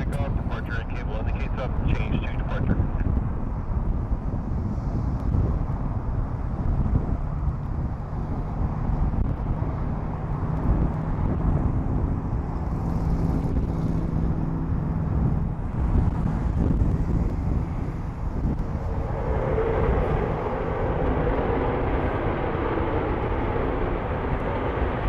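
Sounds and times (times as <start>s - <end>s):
jet engine rumbling: 0.0s - 25.0s.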